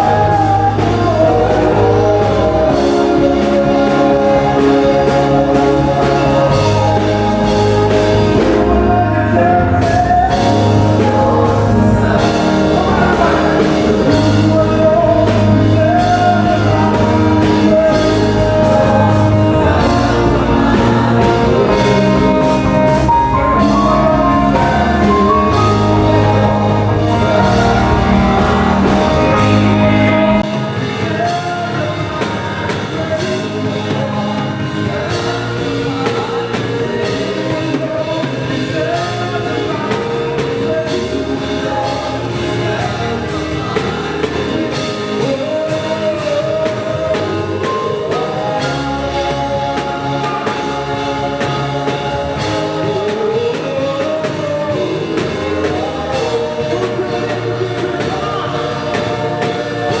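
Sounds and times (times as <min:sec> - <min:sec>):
band playing: 0:00.0 - 1:00.0
people singing: 0:00.0 - 1:00.0.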